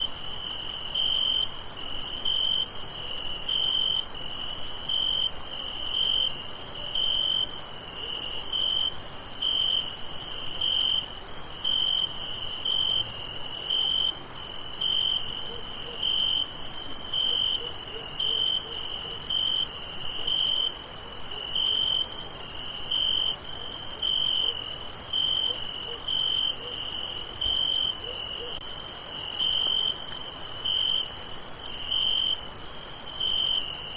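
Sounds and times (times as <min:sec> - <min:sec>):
continuous high hiss: 0:00.0 - 0:33.9
crickets chirping: 0:00.0 - 0:33.9.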